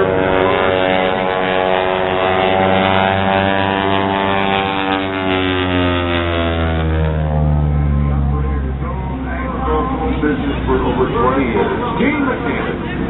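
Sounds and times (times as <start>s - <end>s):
engine passing at speed: 0.0s - 13.0s.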